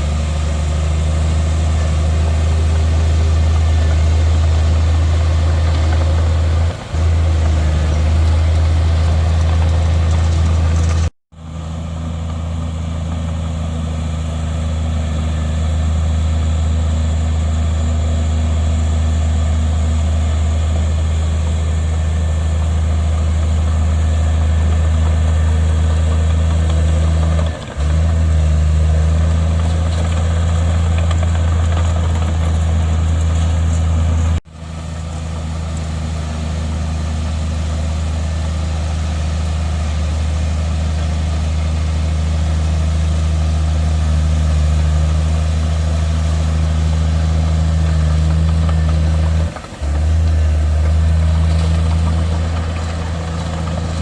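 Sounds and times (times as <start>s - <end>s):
heavy diesel engine humming: 0.0s - 54.0s.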